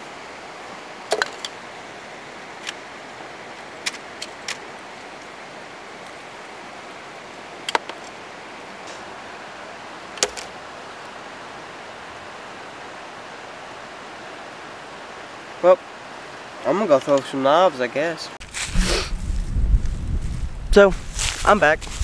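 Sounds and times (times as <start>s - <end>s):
creek water rushing: 0.0s - 19.2s.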